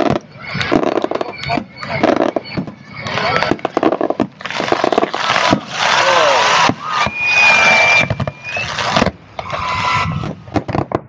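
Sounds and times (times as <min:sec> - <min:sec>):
firework whistle: 0:00.0 - 0:10.9
firework shells bursting: 0:00.0 - 0:11.0
fireworks hissing: 0:00.0 - 0:11.0.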